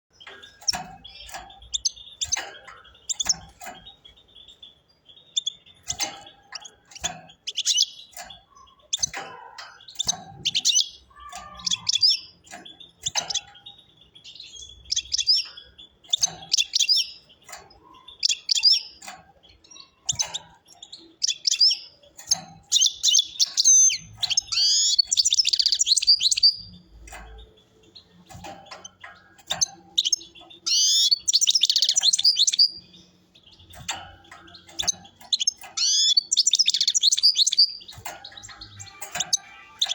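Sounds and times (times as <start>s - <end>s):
goldfinch twittering song: 0.1s - 39.9s.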